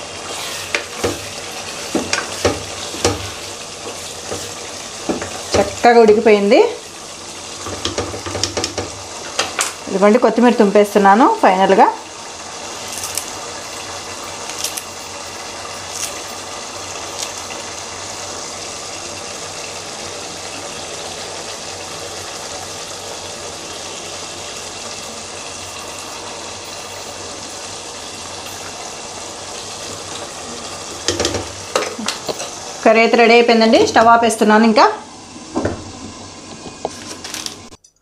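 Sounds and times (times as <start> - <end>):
curry bubbling and sizzling: 0.0 - 37.8.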